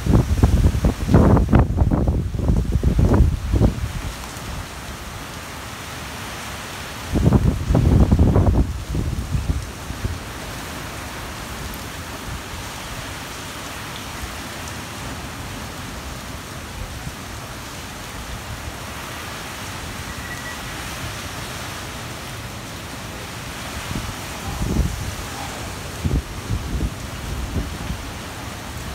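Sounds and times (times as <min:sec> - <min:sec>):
heavy rain and wind hiss: 0:00.0 - 0:28.9.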